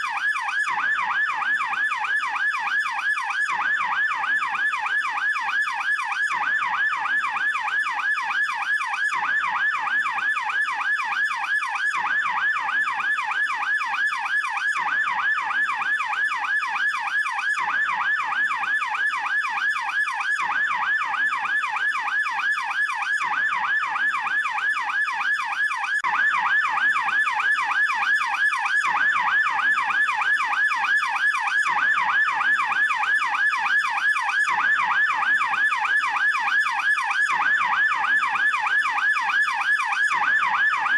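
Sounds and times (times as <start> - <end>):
police yelp siren wailing: 0.0 - 40.9.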